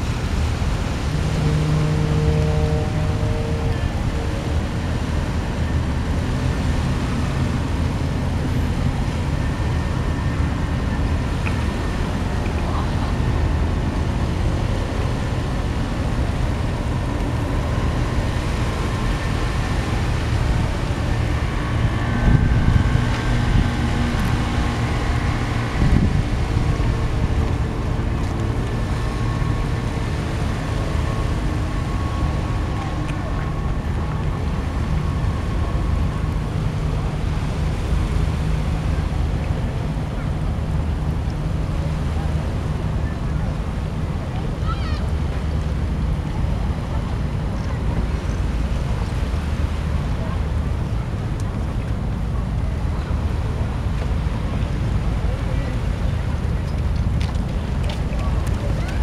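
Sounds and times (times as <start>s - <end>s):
distant engines: 0.0s - 59.0s
wind on microphone: 0.0s - 59.0s.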